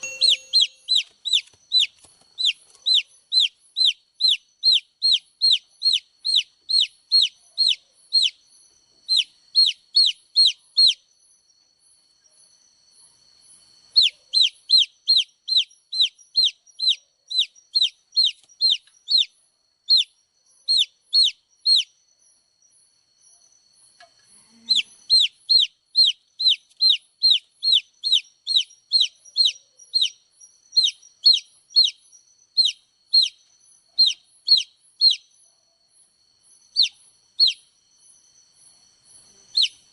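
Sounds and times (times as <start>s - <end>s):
baby chick peeping: 0.0s - 11.2s, 13.9s - 22.0s, 24.2s - 35.4s, 36.6s - 37.8s, 39.4s - 39.9s.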